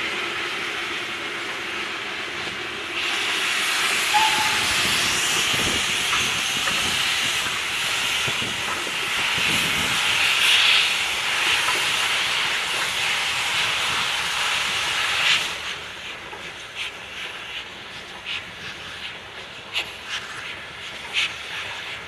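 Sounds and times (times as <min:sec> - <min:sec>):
steam locomotive hissing steam: 0:00.0 - 0:22.0
train rolling rumble: 0:00.0 - 0:22.0.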